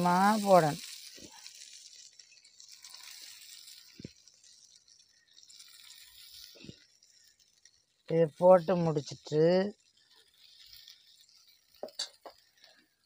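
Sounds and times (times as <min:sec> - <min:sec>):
faint sizzle in pan: 0:00.0 - 0:13.0.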